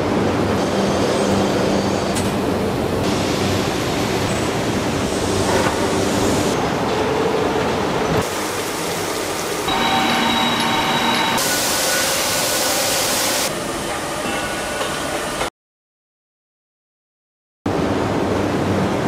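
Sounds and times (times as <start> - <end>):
factory machinery clatter and hiss: 0.0 - 15.5.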